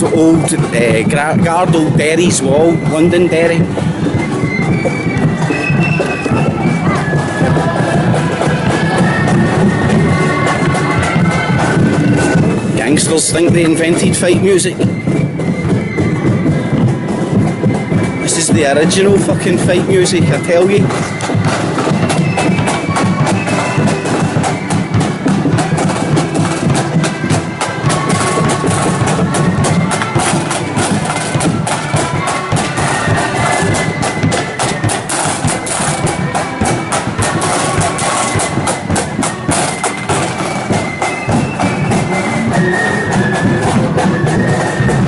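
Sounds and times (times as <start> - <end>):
marching band melody: 0.0 - 45.0
rapid drumming: 0.0 - 45.0.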